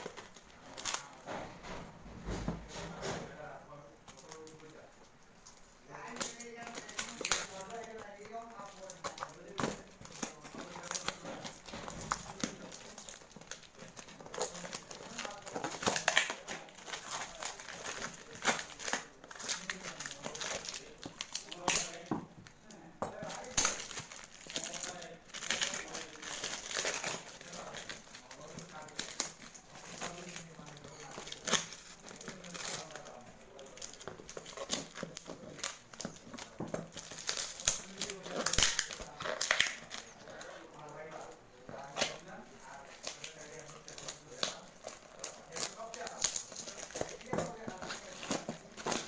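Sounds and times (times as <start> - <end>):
packaging crinkling: 0.0 - 3.5, 4.1 - 49.0.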